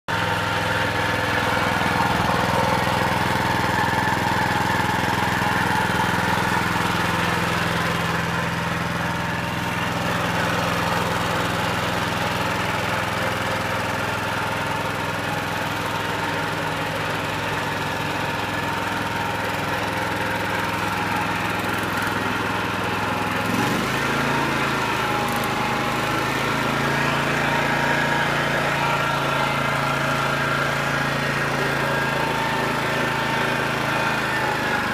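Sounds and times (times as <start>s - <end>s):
lawnmower engine running: 0.1s - 34.9s.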